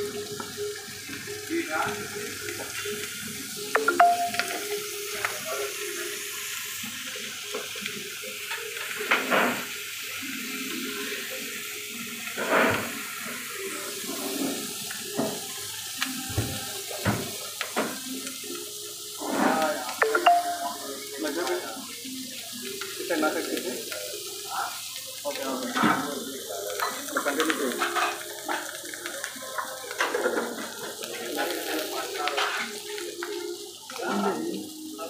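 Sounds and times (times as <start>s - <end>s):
hot plate sizzling: 0.0s - 35.0s.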